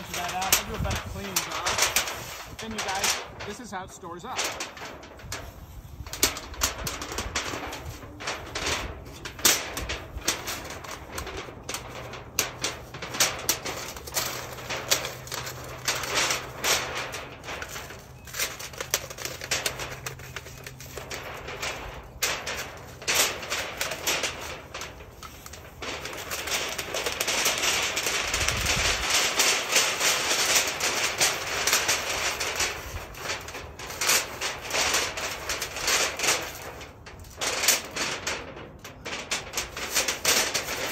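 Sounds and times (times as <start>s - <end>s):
metal scraping and rushing: 0.0s - 40.9s
metal stovepipe clicking and rattling: 0.0s - 40.9s.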